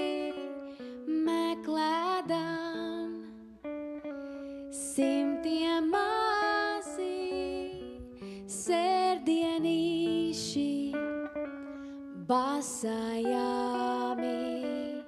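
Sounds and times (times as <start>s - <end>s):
woman singing: 0.0s - 3.6s, 4.7s - 11.5s, 12.1s - 15.0s
electric guitar: 0.0s - 15.0s.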